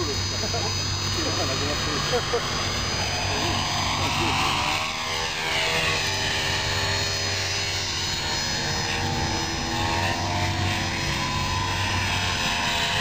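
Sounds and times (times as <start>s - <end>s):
model helicopter whine: 0.0s - 13.0s.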